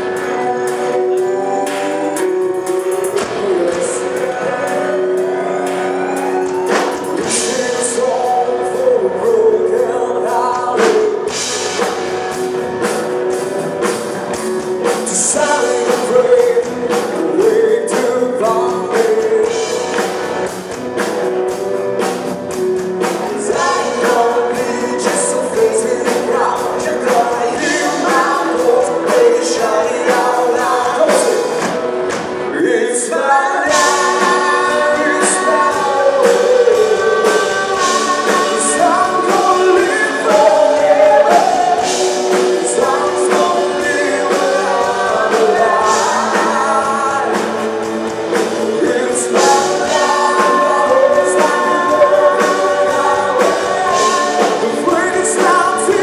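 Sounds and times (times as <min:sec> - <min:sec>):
man singing: 0:00.0 - 0:13.0, 0:14.3 - 0:20.6, 0:22.8 - 0:56.0
live rock band playing: 0:00.0 - 0:56.0.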